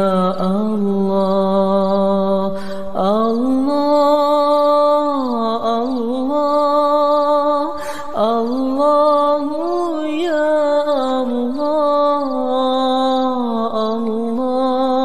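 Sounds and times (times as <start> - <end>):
person chanting: 0.0 - 15.0.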